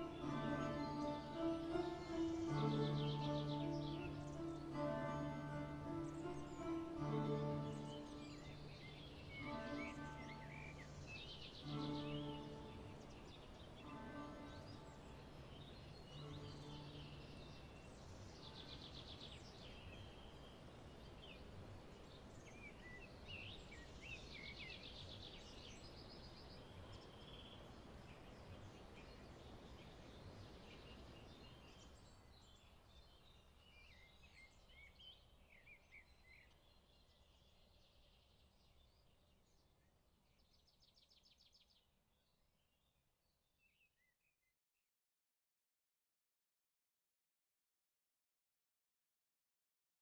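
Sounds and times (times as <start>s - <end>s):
small birds chirping: 0.0s - 42.9s
soft steady background noise: 0.0s - 43.4s.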